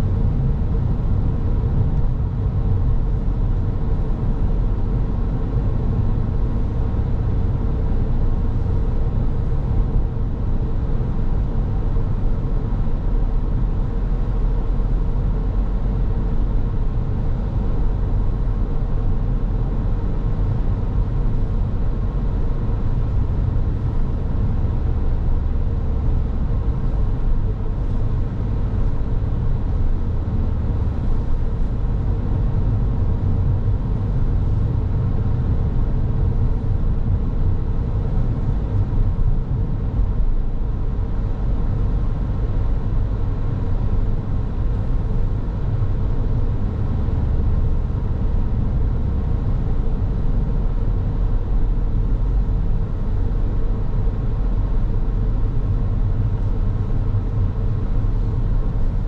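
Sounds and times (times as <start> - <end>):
car tyres and engine rumble: 0.0 - 59.0
faint steady hum: 0.0 - 59.0.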